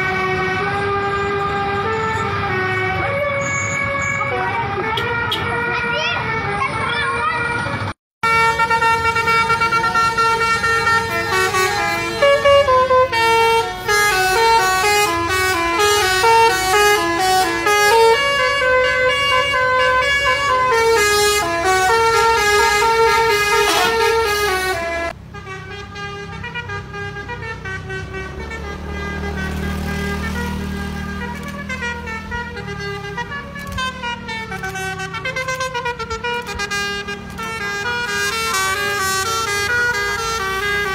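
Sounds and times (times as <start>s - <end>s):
multi-tone bus horn melody: 0.0s - 40.9s.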